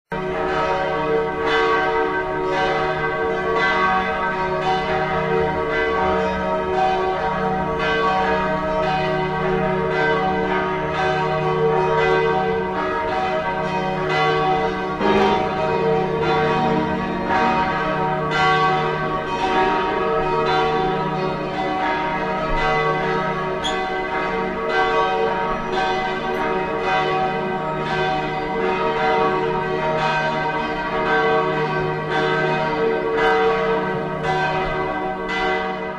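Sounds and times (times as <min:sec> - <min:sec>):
church bells pealing: 0:00.1 - 0:35.9.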